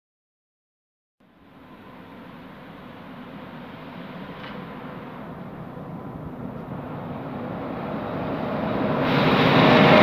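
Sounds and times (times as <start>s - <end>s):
freight train approaching: 1.2s - 10.0s.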